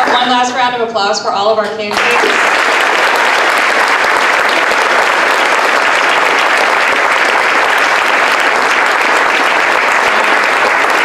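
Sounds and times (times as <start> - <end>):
audience applause: 1.9 - 11.0.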